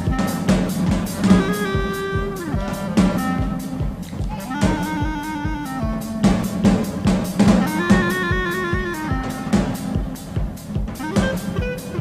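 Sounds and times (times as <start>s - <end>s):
drum kit beating: 0.0s - 12.0s
swing band playing: 0.0s - 12.0s.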